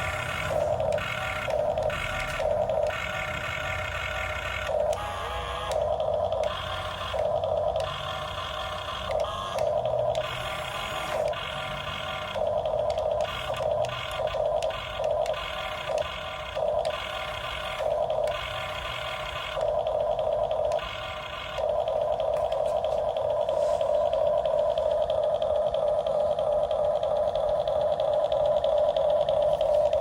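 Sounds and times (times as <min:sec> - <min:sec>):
electric drive whining: 0:00.0 - 0:30.0
steady low hum: 0:00.0 - 0:30.0.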